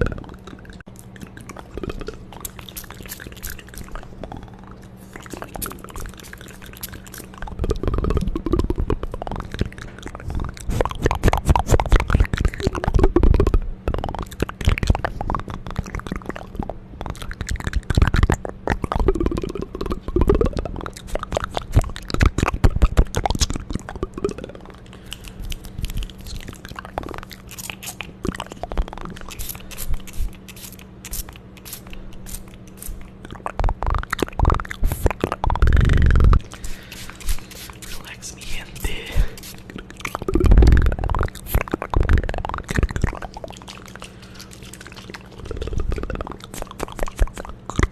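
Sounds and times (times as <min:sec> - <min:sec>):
wet mouth clicks and smacks: 0:00.0 - 0:47.9.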